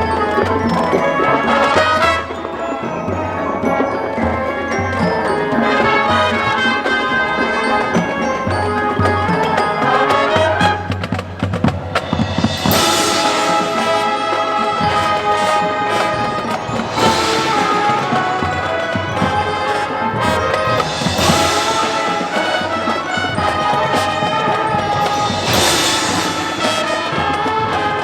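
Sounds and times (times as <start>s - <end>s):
cymbal crashes: 0.0s - 10.7s, 11.7s - 19.4s, 20.6s - 24.2s, 25.0s - 27.5s
marching band playing: 0.0s - 28.0s.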